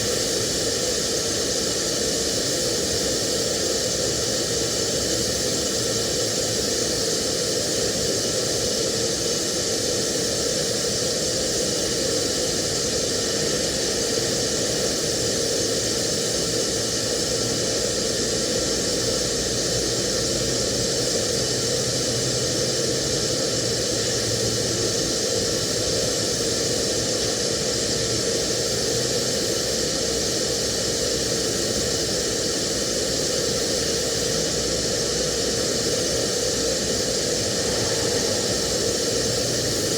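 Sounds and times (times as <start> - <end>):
welding arc hissing and buzzing: 0.0 - 39.9.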